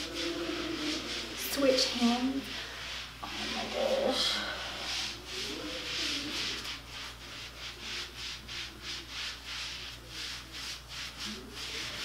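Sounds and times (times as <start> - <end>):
mitt swishing on skin: 0.0 - 12.0.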